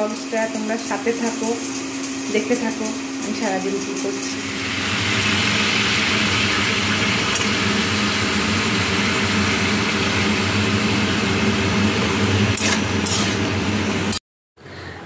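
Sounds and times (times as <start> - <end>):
exhaust fan humming: 0.0 - 14.2.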